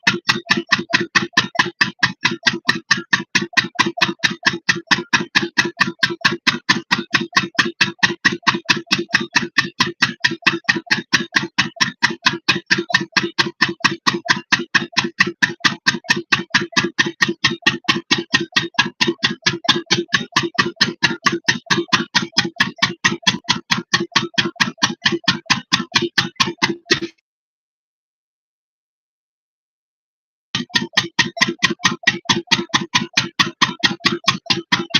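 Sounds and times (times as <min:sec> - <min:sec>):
diesel engine running pump: 0:00.0 - 0:27.2, 0:30.6 - 0:34.9.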